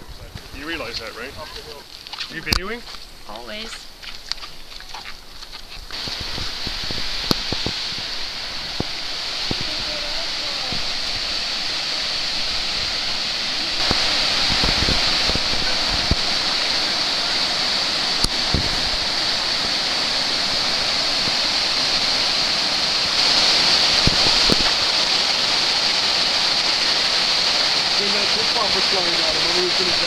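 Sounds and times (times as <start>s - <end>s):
waterfall rushing: 5.9s - 30.0s.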